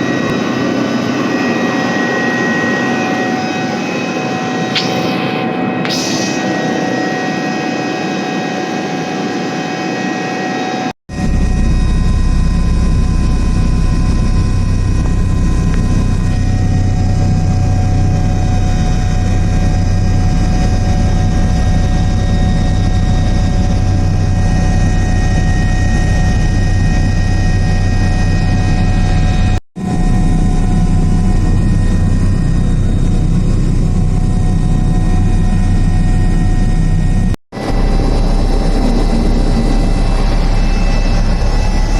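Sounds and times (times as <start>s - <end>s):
helicopter rotor rumble: 0.0s - 41.9s
turbine whine: 0.0s - 41.9s.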